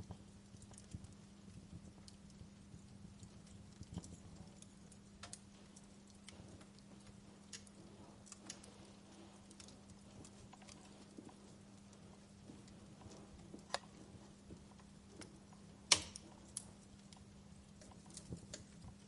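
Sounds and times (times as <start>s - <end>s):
low steady hum: 0.0s - 19.0s
wood fire crackling: 0.0s - 19.0s.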